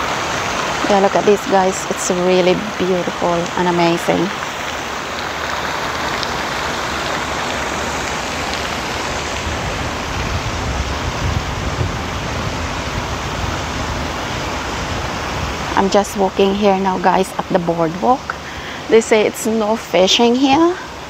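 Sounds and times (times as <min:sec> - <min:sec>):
fountain splashing onto water: 0:00.0 - 0:21.0
wind rumbling on microphone: 0:00.0 - 0:21.0.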